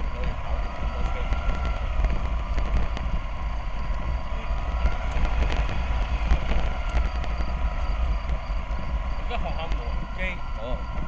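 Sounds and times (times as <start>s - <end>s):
faint constant whine: 0.0s - 11.0s.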